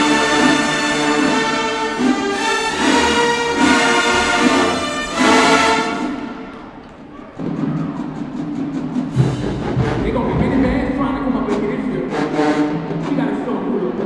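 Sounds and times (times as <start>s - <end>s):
marching band brass and woodwinds: 0.0s - 10.9s, 11.5s - 14.0s.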